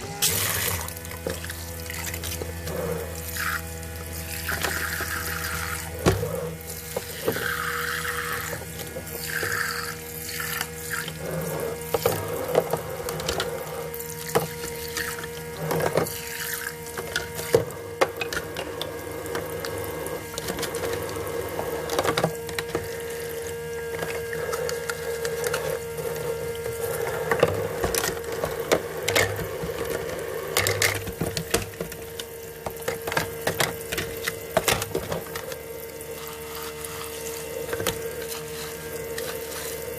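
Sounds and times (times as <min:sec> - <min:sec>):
small water pump humming: 0:00.0 - 0:39.9
water running from faucet: 0:00.0 - 0:39.9.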